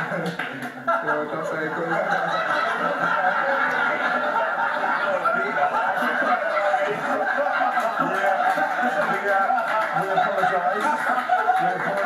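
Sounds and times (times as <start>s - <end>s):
men laughing through television speaker: 0.0s - 12.0s.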